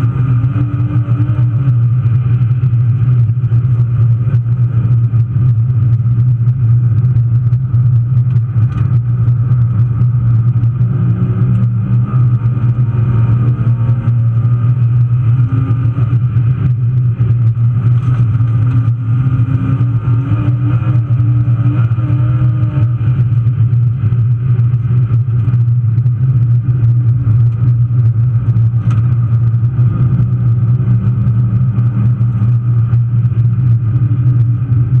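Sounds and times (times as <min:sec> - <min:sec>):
car engine running hard: 0:00.0 - 0:35.0.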